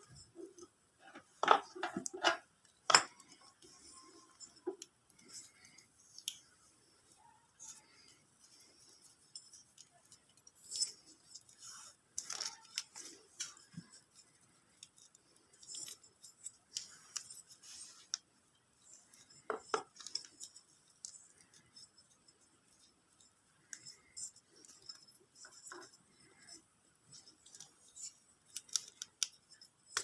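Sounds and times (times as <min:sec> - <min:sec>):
light clicks and handling noises: 0:00.0 - 0:30.0.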